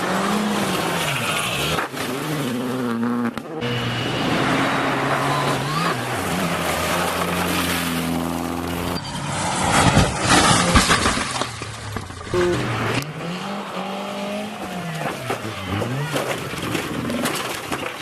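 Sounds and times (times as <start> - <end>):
rally car engine revving: 0.0 - 18.0
tyre and road noise: 0.0 - 18.0.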